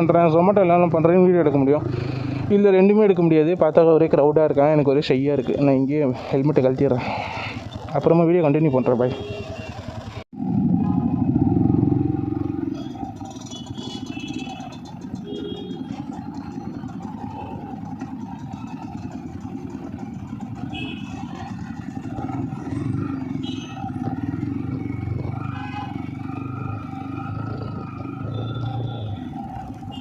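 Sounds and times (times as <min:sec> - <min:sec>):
vehicle engines running: 0:00.0 - 0:30.0.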